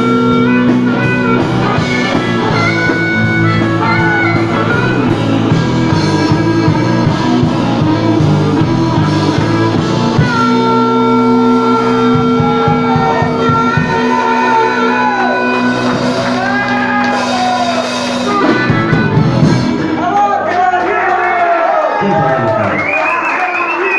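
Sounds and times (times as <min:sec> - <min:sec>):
bending guitar lines: 0:00.0 - 0:20.2
blues-rock band playing: 0:00.0 - 0:22.8.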